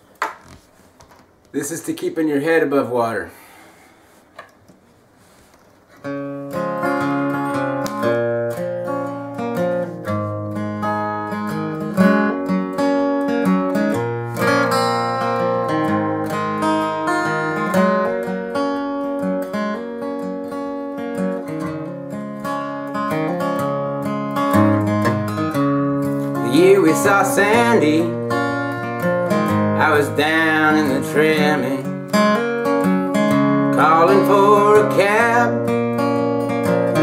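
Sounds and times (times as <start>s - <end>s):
acoustic guitar fingerpicking: 5.4s - 37.0s.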